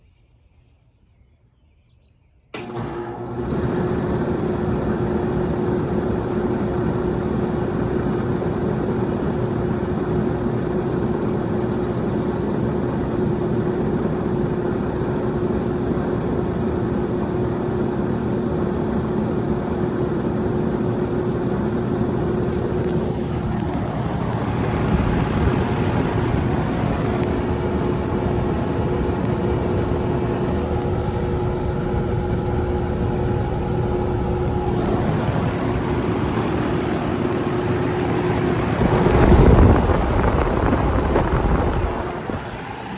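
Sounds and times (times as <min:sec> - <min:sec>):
air conditioner humming: 0:02.5 - 0:42.9.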